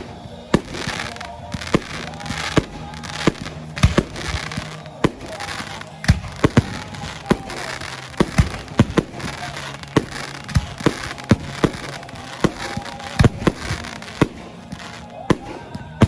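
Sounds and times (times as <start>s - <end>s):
continuous crackling hiss: 0.0s - 16.0s
firework shells bursting: 0.0s - 16.0s.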